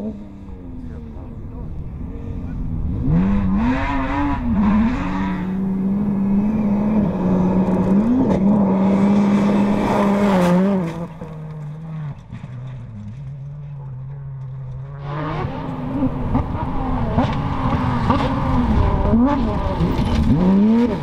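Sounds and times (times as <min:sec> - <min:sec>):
rally car engine at full throttle: 0:00.0 - 0:21.0.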